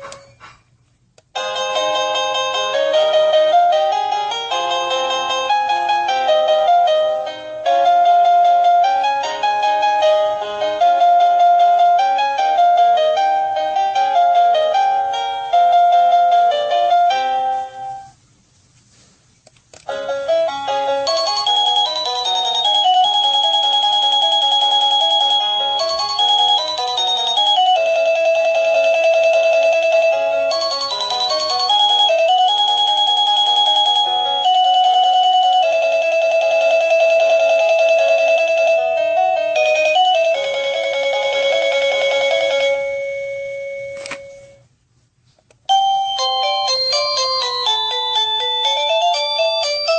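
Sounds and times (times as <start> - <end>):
doorbell chime melody: 1.4 - 18.1, 19.9 - 44.6, 45.7 - 49.9.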